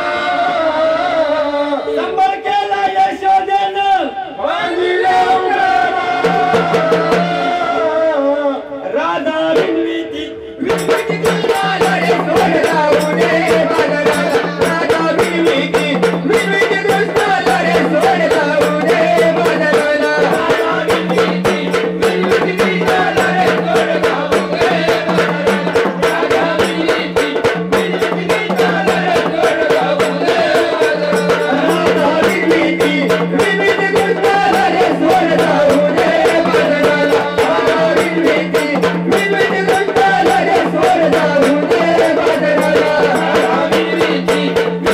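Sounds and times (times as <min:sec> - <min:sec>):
fast dense percussion rhythm: 0:05.1 - 0:07.8, 0:09.5 - 0:09.9, 0:10.6 - 0:44.9.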